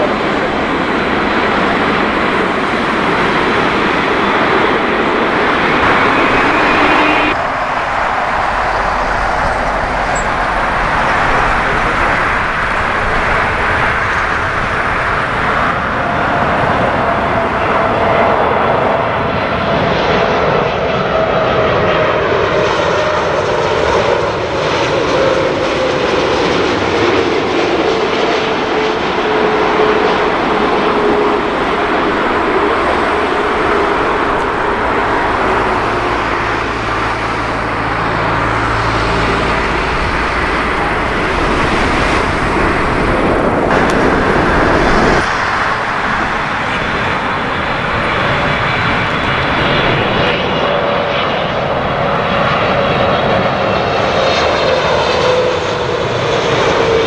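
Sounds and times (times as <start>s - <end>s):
jet engine whine sliding lower: 0.0s - 57.0s
jet engines of landing airliners: 0.0s - 57.0s.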